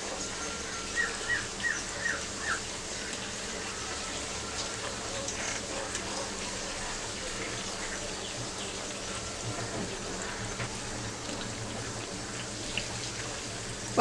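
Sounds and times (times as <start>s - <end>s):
deep-frying sizzle with crackles: 0.0s - 14.0s.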